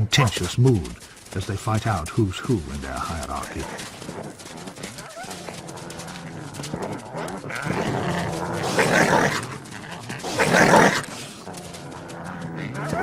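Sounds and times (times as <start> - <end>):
coyotes growling and snarling: 0.0 - 13.0.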